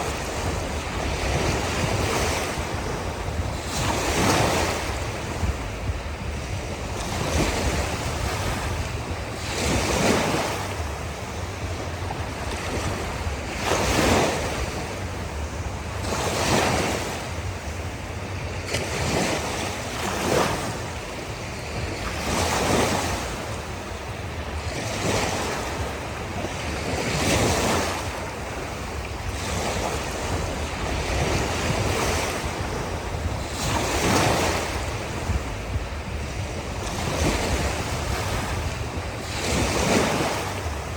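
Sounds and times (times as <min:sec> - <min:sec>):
ocean surf on beach: 0:00.0 - 0:40.9
wind rumble on microphone: 0:00.0 - 0:40.9.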